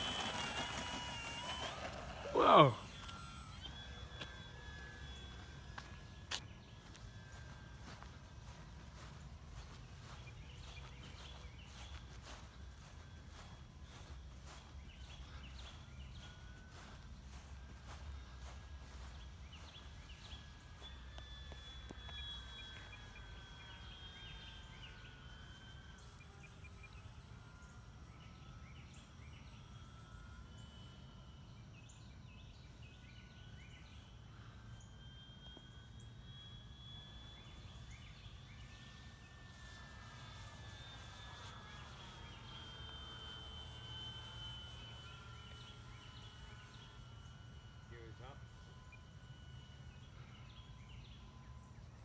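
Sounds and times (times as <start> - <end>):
model plane motor whine overhead: 0.0 - 52.0.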